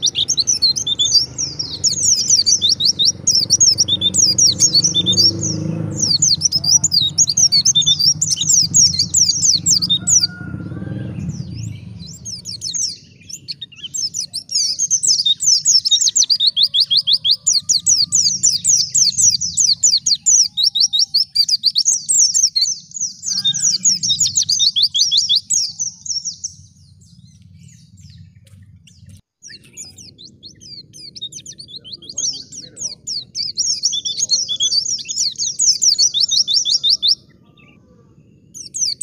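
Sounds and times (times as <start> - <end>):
bird singing rapid chattering song: 0.0 - 39.0.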